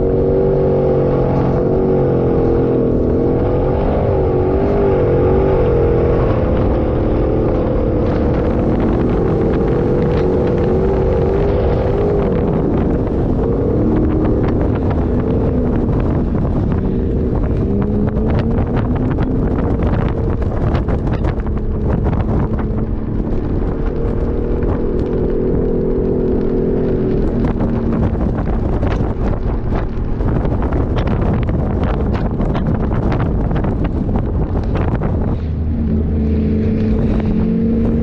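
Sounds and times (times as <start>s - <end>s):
vehicle engine running: 0.0s - 38.0s
wind on microphone: 0.0s - 38.0s.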